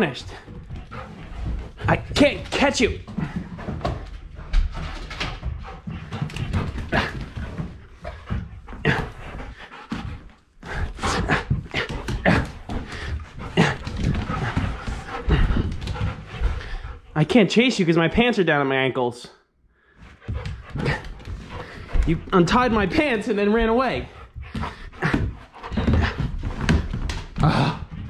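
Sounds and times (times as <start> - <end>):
dog panting: 0.1 - 17.2, 19.8 - 28.0.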